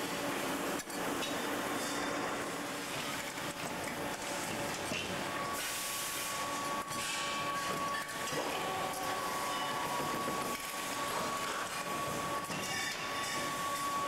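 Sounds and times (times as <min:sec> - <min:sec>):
factory machinery running: 0:00.0 - 0:14.0.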